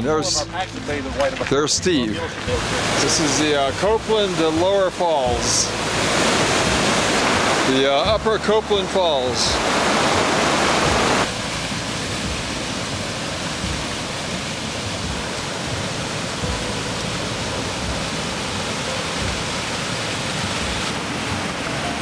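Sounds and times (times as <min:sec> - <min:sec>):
waterfall roaring: 0:02.2 - 0:22.0.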